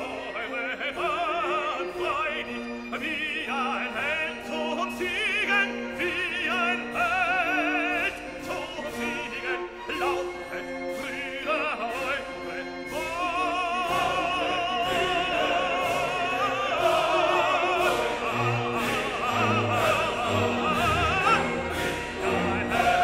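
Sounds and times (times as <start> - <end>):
operatic singer with vibrato: 0.0 - 23.0
orchestra playing: 0.0 - 23.0.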